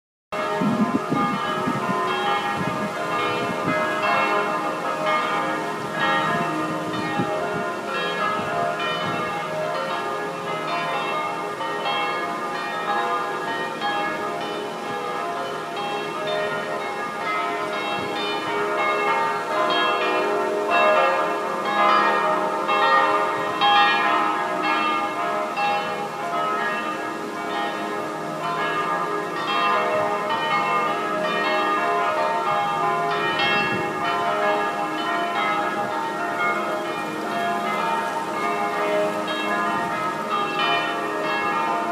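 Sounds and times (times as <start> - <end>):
church bells pealing: 0.4 - 41.9.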